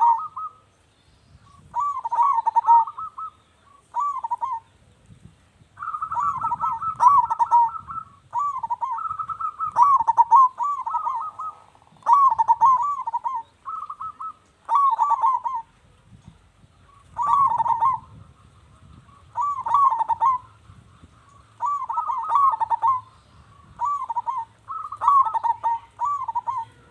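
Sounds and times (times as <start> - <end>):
dove cooing: 0.0 - 0.7, 1.6 - 4.7, 5.8 - 15.9, 16.8 - 26.9.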